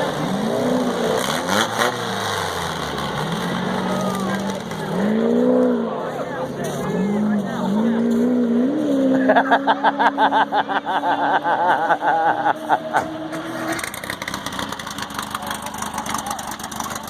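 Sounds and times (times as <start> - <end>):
race car engine burbling: 0.0 - 17.0.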